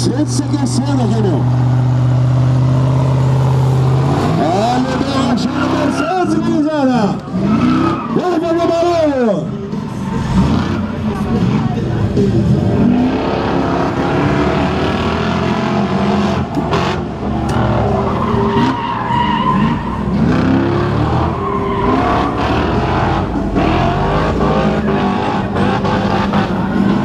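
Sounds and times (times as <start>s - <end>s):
tyres skidding and squealing: 0.0s - 27.0s
car engine revving hard: 0.1s - 8.3s, 10.1s - 27.0s.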